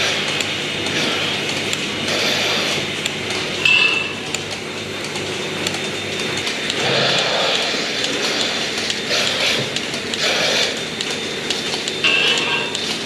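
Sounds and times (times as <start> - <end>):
milking machinery humming: 0.0 - 13.0.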